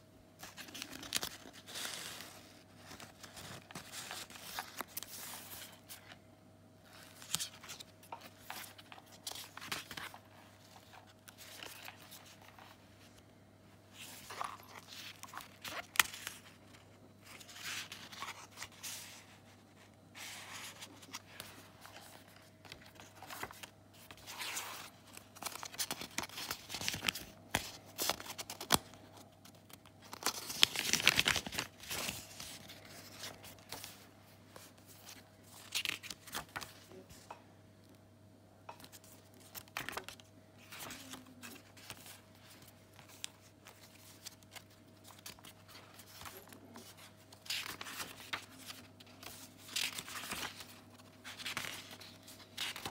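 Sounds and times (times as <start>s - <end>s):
paper rustling and crinkling: 0.4s - 6.2s, 6.8s - 13.3s, 13.9s - 37.3s, 38.8s - 52.9s.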